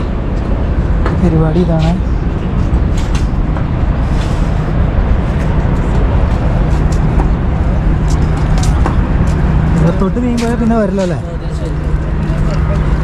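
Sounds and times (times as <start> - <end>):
faint engine-like hum: 0.0 - 13.0
low rumble of outdoor noise: 0.0 - 13.0.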